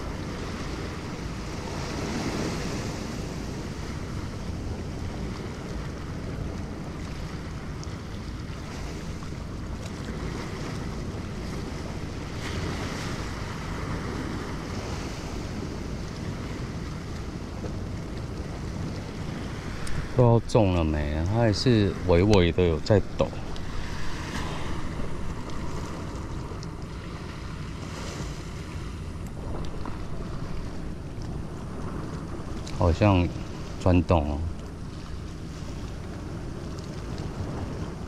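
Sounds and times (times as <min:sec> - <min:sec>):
sea waves washing over rocks: 0:00.0 - 0:38.0
wind buffeting microphone: 0:00.0 - 0:38.0.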